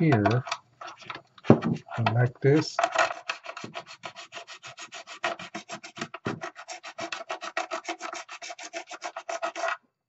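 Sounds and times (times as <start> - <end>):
file rasping on plastic: 1.7 - 9.8.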